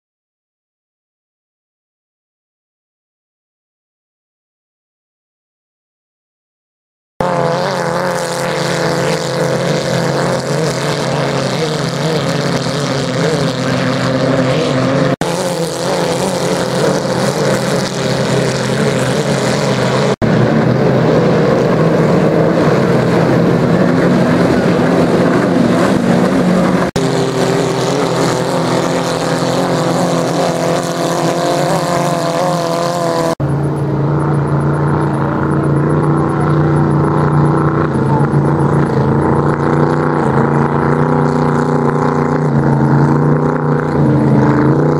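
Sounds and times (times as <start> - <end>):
racing boat engines roaring: 7.2 - 44.9.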